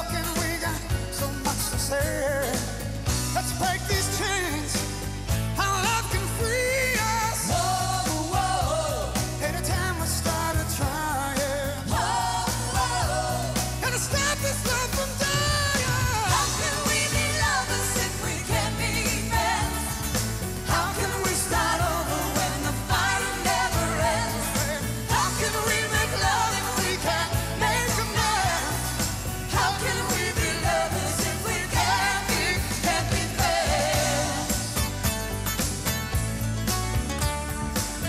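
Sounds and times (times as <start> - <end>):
man singing with vibrato: 0.0 - 34.8
tambourines shaking: 0.0 - 37.2
live pop band: 0.0 - 38.0.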